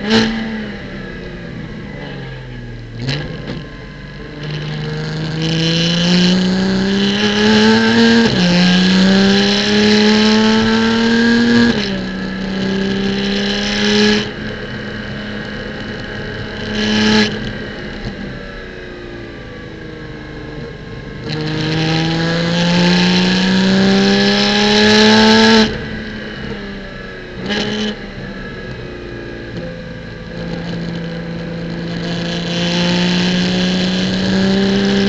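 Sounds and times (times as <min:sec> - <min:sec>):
race car engine accelerating: 0:00.0 - 0:18.6, 0:19.2 - 0:35.0.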